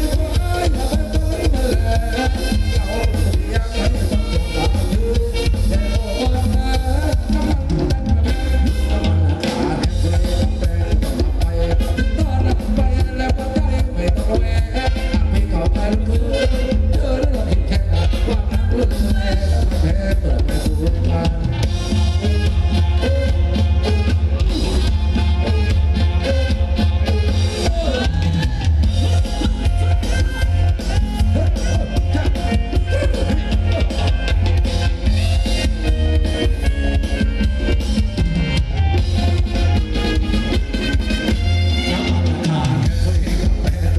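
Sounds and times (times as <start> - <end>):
heavy bass: 0.0 - 43.9
live band playing dance music: 0.0 - 43.9
steady drum beat: 0.0 - 43.9.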